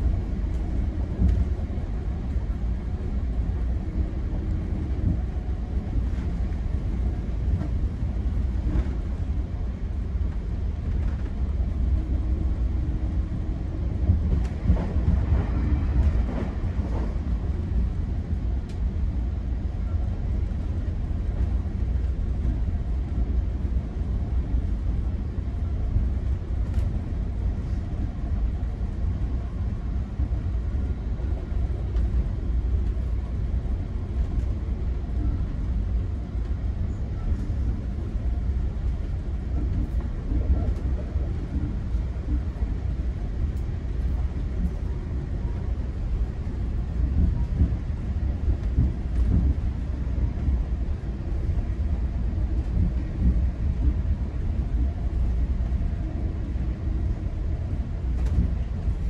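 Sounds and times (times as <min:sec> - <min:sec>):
train coach rumbling on rails: 0:00.0 - 0:59.0.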